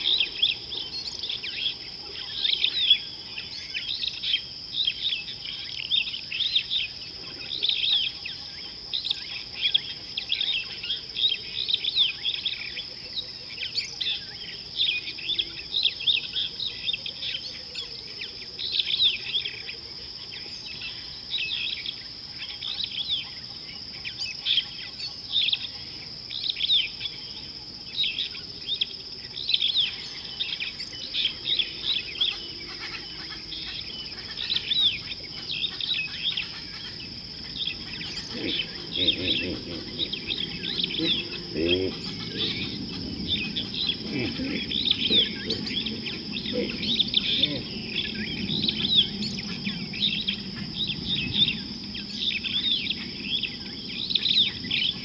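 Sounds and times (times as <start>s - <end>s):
birds chirping: 0.0s - 55.0s
steady high-pitched whine: 0.0s - 55.0s.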